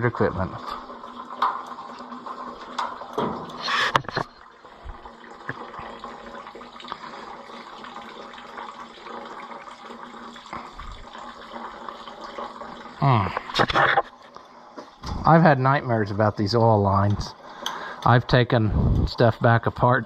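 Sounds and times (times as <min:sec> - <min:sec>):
water running into a bucket: 0:00.0 - 0:20.0.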